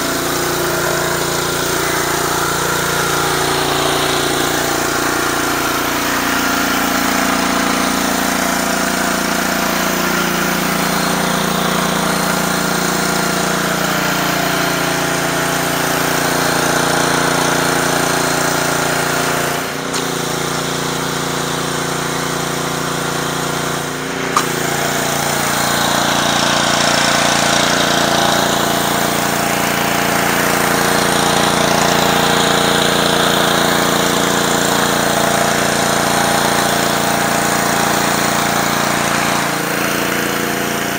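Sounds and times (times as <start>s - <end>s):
high-pressure water spraying: 0.0s - 40.9s
pressure washer engine running: 0.0s - 40.9s.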